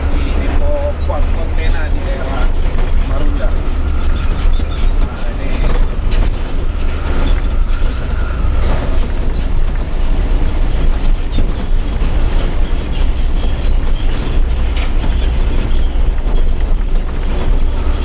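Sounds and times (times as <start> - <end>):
cab rattles and clicks: 0.0 - 18.0
truck engine and road rumble: 0.0 - 18.0.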